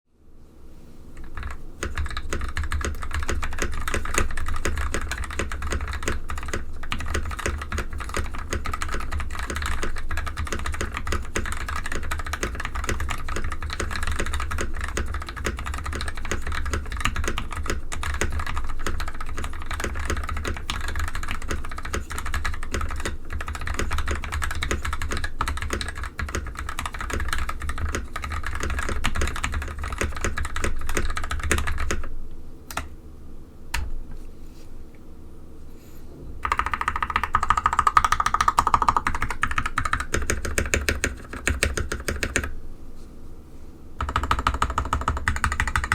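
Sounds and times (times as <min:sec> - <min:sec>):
fast typing on mechanical keyboard: 0:01.2 - 0:32.1, 0:36.4 - 0:42.5, 0:44.0 - 0:45.9.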